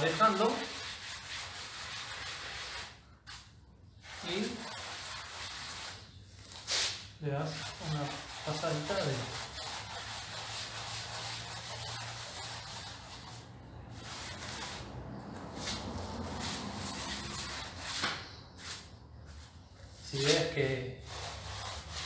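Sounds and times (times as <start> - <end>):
sponge float rubbing on render: 0.0 - 14.8, 15.6 - 19.5, 20.1 - 22.0.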